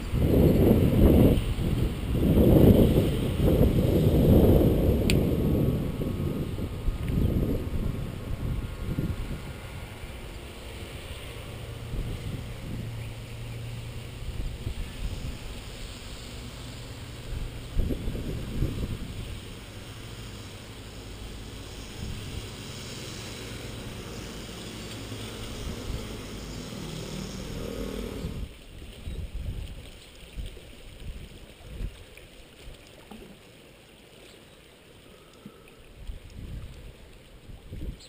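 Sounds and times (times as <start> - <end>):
wind buffeting microphone: 0.0 - 32.9, 35.8 - 38.0.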